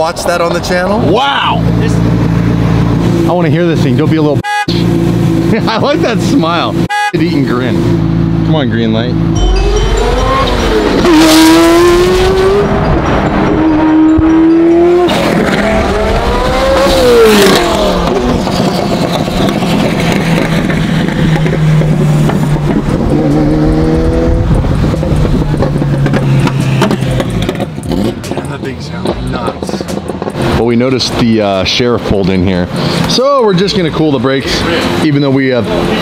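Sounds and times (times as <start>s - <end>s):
car engine accelerating: 4.7s - 36.0s.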